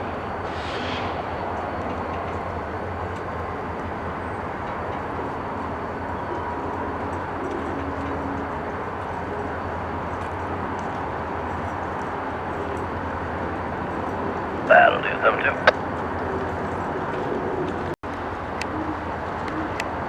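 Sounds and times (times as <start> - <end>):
diesel locomotive droning: 0.0 - 20.0.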